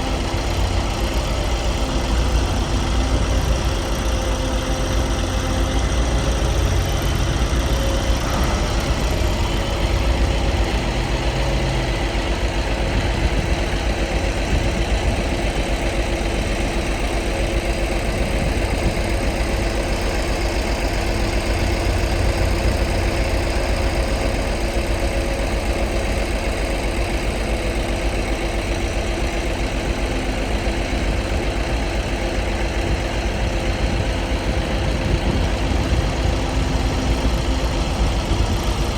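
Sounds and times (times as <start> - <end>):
compactor diesel engine running: 0.0 - 38.9.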